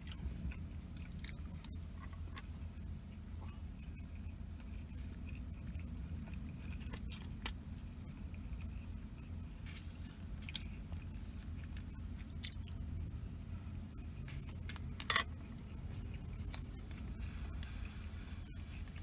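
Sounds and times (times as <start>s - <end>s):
close-up chewing: 0.0s - 19.0s
steady low hum: 0.0s - 19.0s.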